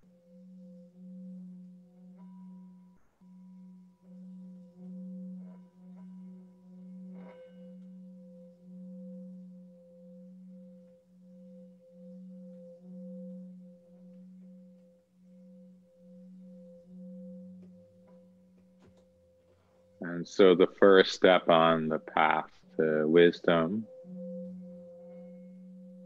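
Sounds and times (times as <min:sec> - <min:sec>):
singing bowl tone: 0:00.0 - 0:26.0.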